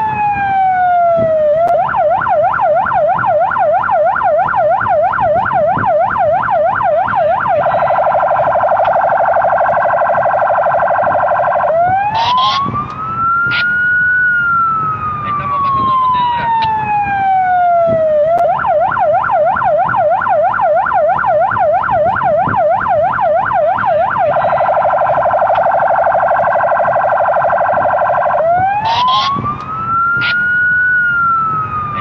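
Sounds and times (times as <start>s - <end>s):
police siren wailing and yelping: 0.0s - 32.0s
sharp siren blips: 0.0s - 32.0s.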